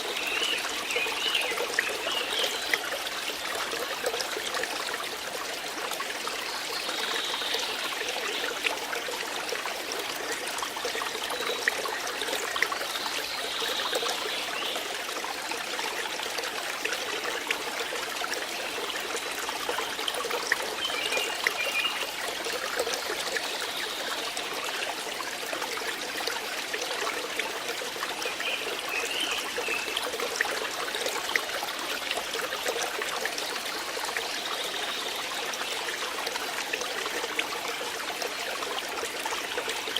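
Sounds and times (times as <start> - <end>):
water trickling with splashes: 0.0 - 39.9.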